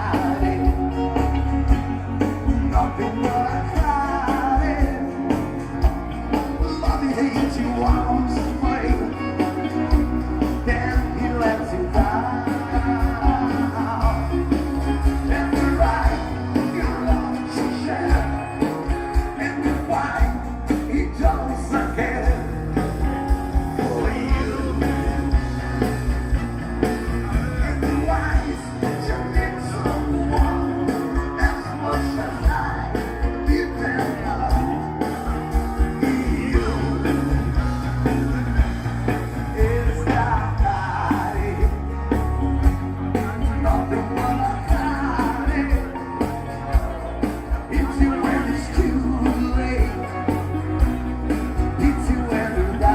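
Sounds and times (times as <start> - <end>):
electric guitar: 0.0 - 52.9
lead vocal singing: 0.0 - 52.9
steady drum beat: 0.0 - 52.9.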